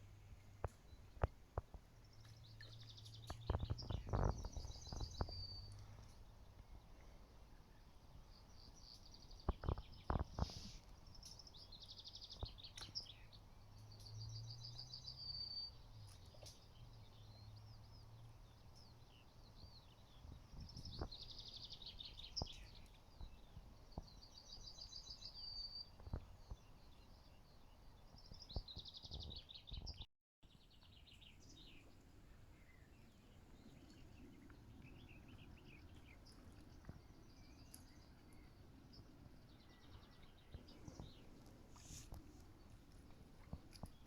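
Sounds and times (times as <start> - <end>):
small songbirds trilling: 0.2 - 44.0.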